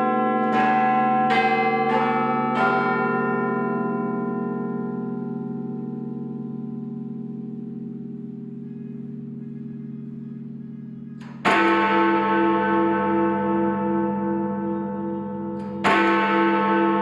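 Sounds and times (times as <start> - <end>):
large bell ringing: 0.0 - 17.0.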